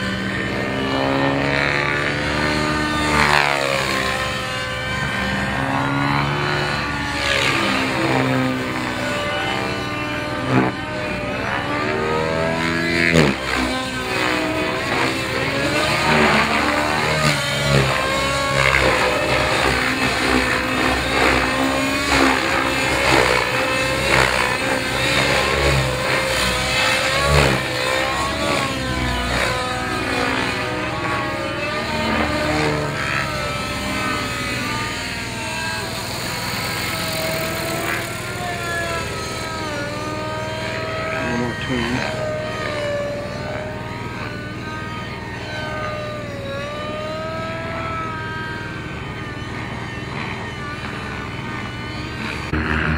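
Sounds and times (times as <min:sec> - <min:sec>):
model helicopter engine and rotor: 0:00.0 - 0:52.9.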